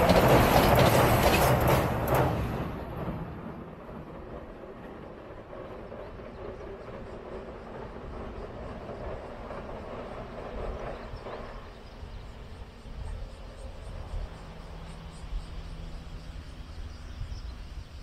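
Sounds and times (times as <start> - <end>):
train rumbling over bridge: 0.0 - 18.0.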